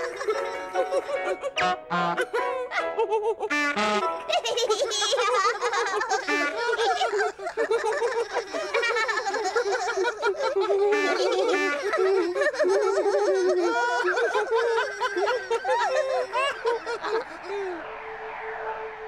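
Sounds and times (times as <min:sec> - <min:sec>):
high-pitched voices giggling: 0:00.0 - 0:19.0.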